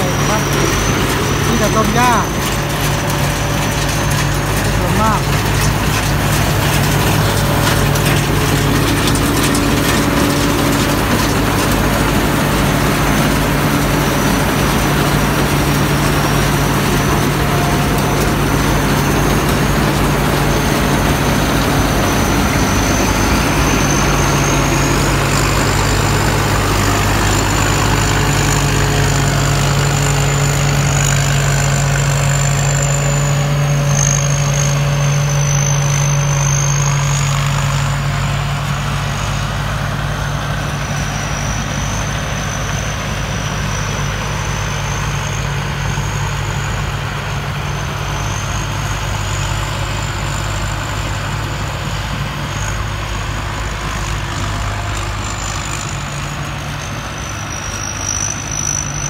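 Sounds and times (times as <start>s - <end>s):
combine harvester engine drone: 0.0s - 59.0s
high wavering whine: 0.0s - 59.0s.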